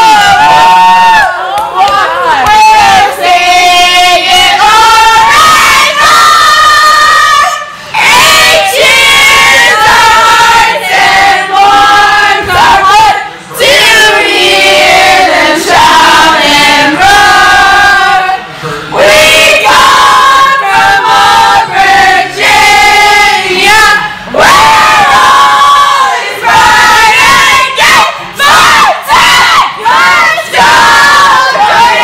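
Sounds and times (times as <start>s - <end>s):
group of people singing loudly: 0.0s - 32.0s.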